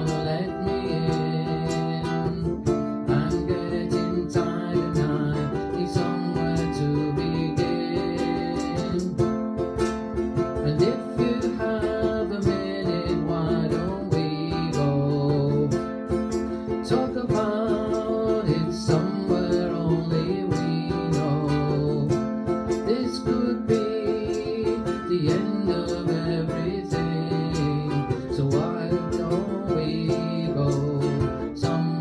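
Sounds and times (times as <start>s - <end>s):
acoustic guitar strumming: 0.0s - 32.0s
man singing: 0.0s - 32.0s.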